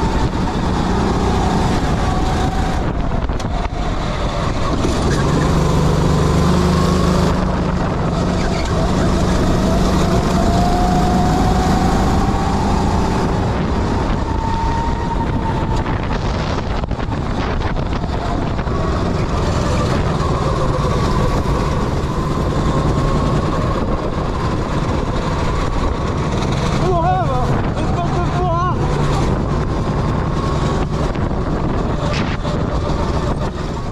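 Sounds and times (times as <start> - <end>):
go-kart engine running: 0.0 - 33.9
steady rushing noise: 0.0 - 33.9.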